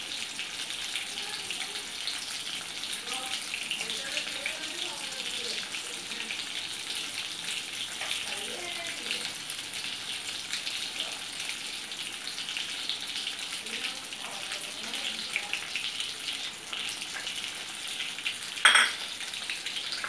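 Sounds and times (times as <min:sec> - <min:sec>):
hot oil sizzling in a pan: 0:00.0 - 0:20.0.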